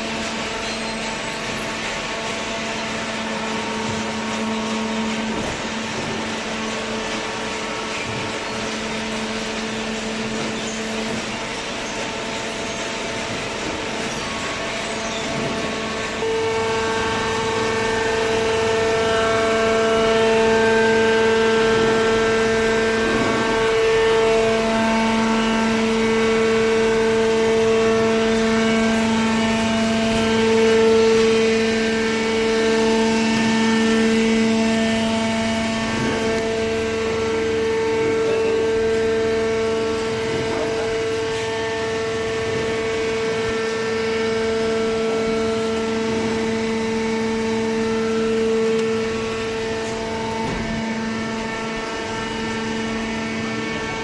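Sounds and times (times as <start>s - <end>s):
hydraulic pump motor humming: 0.0s - 54.0s.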